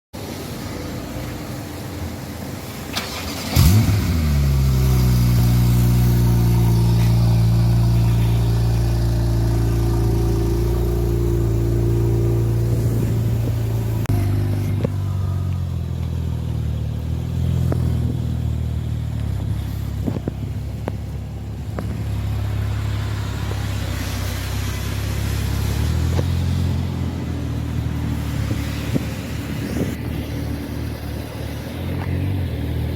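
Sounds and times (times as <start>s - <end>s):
car engine starting and idling: 0.2s - 32.9s.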